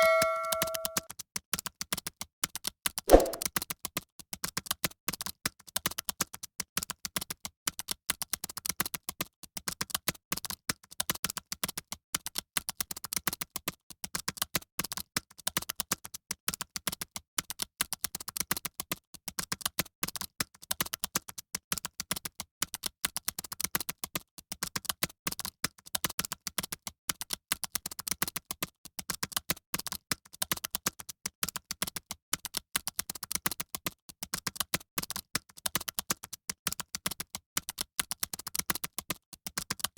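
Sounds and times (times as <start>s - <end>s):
fast typing on a keyboard: 0.0s - 3.0s, 3.6s - 39.9s.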